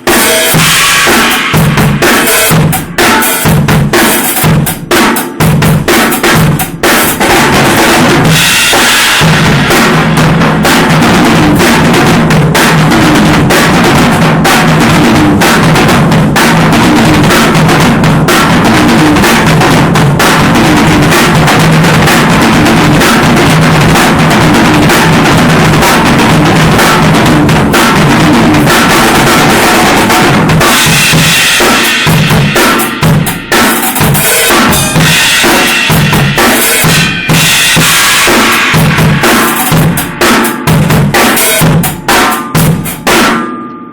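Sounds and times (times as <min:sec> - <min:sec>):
drum kit groove: 0:00.0 - 0:43.9.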